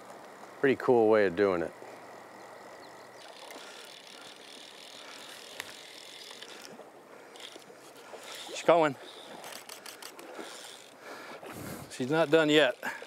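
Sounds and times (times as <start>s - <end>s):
fishing reel drag buzzing: 2.0s - 13.0s.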